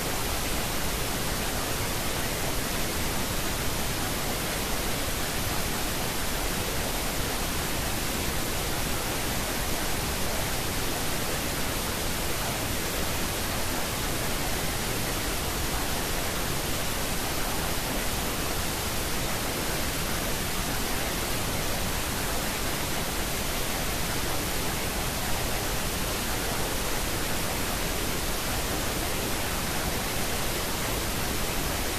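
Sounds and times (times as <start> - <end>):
steady synthetic noise hiss: 0.0 - 31.9.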